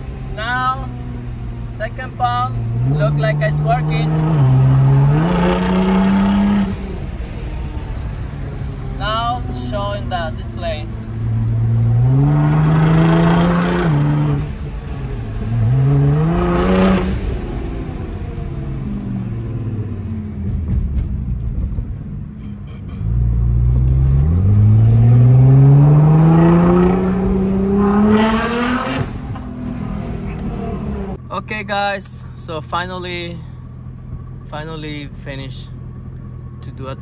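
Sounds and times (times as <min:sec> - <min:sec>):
car engine accelerating hard: 0:00.0 - 0:31.6.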